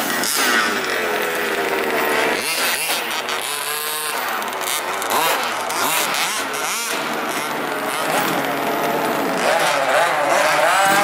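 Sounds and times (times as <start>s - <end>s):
radio-controlled car motors revving: 0.0s - 11.0s.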